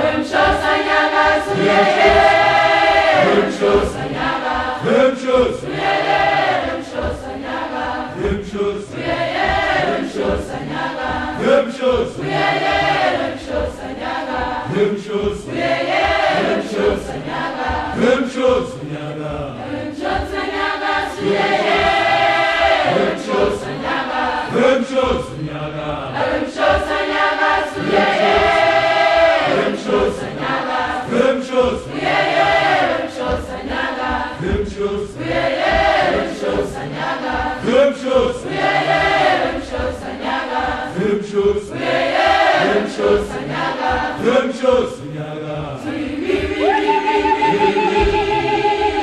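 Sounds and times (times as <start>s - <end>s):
choir singing in harmony: 0.0s - 49.0s.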